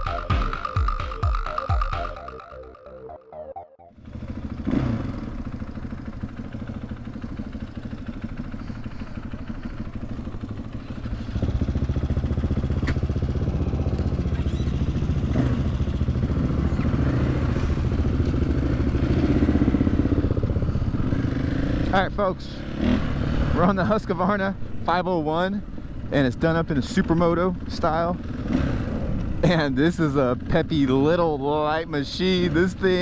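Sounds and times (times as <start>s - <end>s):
motorcycle engine running: 3.9s - 33.0s.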